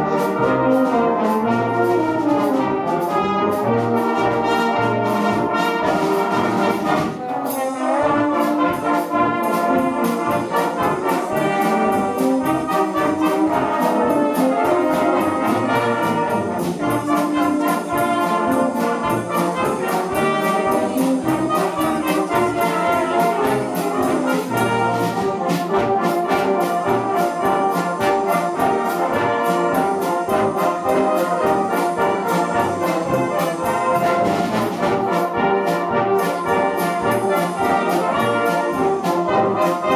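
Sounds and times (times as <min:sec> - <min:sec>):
brass band playing: 0:00.0 - 0:39.9
drum kit beat: 0:00.0 - 0:39.9.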